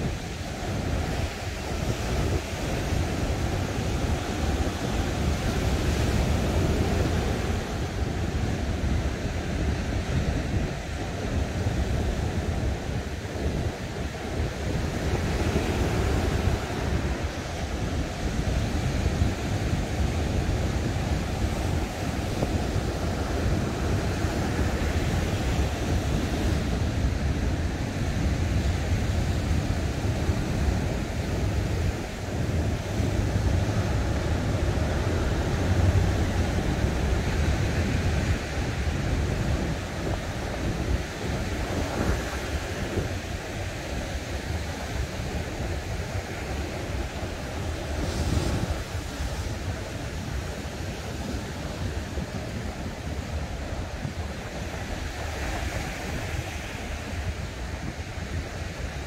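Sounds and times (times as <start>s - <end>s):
ocean surf breaking: 0.0s - 59.0s
wind noise on microphone: 0.0s - 59.0s.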